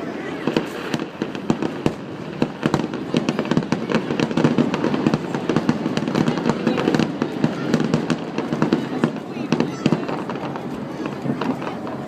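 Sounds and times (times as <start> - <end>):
fireworks cracking and popping: 0.2 - 12.0.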